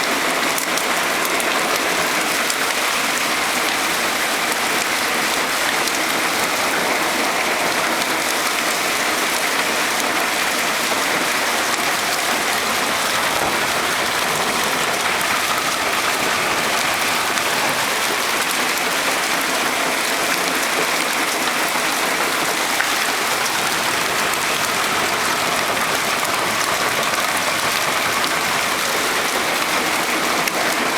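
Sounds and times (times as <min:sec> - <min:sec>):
hail and rain falling heavily: 0:00.0 - 0:30.9.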